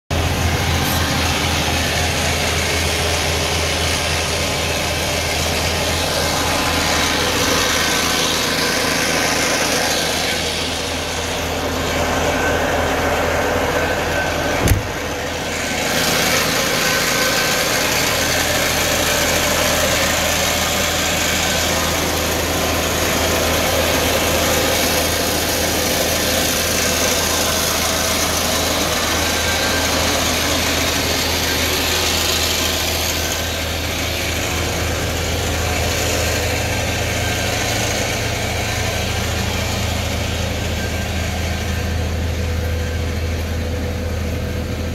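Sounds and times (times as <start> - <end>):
diesel truck engine idling: 0.1 - 44.9.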